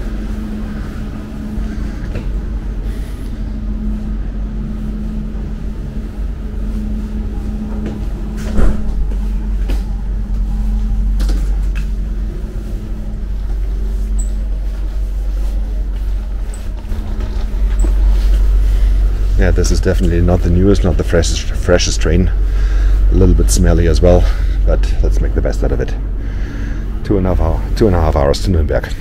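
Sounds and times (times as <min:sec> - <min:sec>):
train interior rumble and hum: 0:00.0 - 0:29.0.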